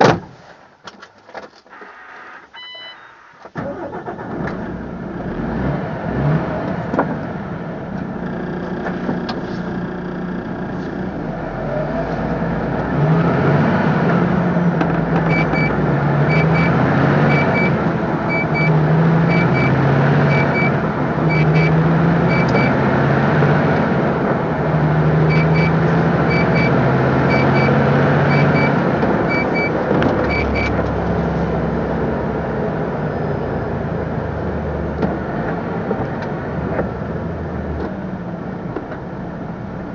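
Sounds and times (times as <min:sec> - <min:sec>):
road noise: 0:00.0 - 0:39.9
diesel lorry engine: 0:01.8 - 0:39.9.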